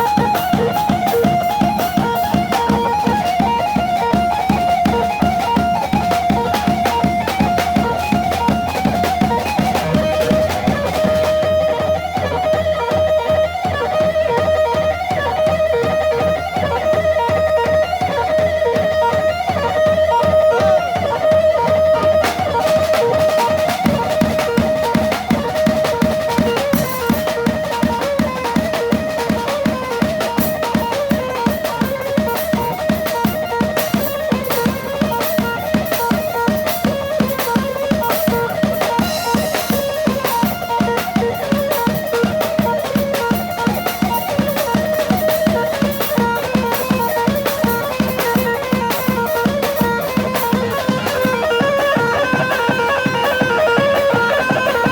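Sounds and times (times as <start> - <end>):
driving drum beat: 0.0 - 54.9
plucked string melody: 0.0 - 54.9.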